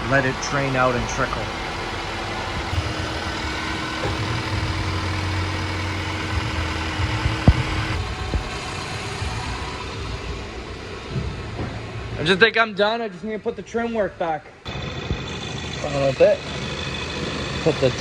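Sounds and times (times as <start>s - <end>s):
car engine idling: 0.0s - 12.3s, 14.6s - 18.0s.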